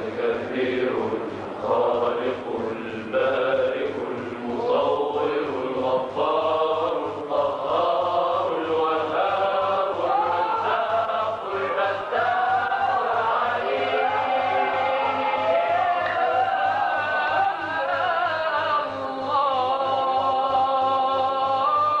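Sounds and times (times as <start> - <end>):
group of men chanting: 0.0 - 18.8.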